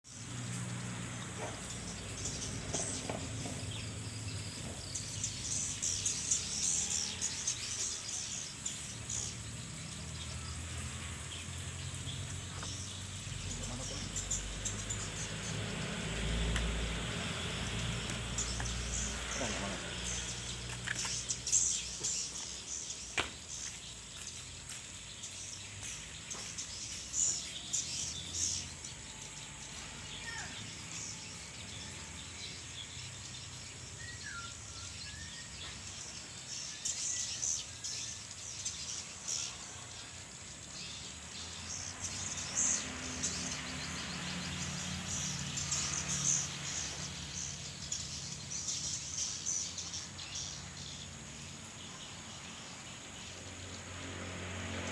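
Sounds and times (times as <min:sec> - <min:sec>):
small bird chirping: 0:00.1 - 0:53.9.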